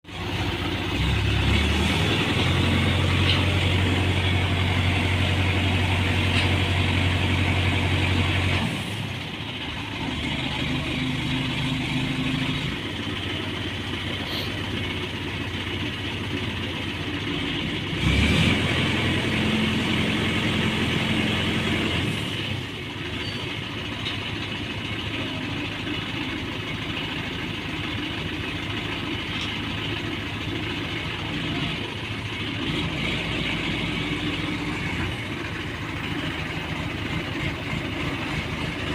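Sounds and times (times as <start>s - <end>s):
crane diesel engine running: 0.0s - 38.9s.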